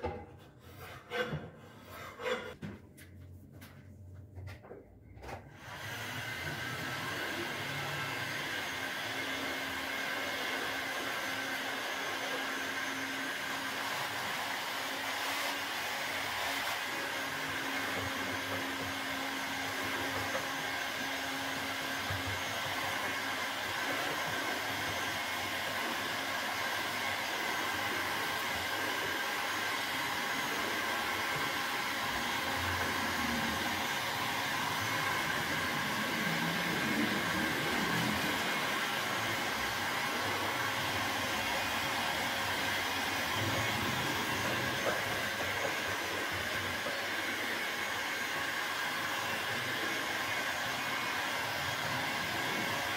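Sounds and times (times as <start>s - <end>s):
heat gun blowing with a whir: 5.5s - 52.9s.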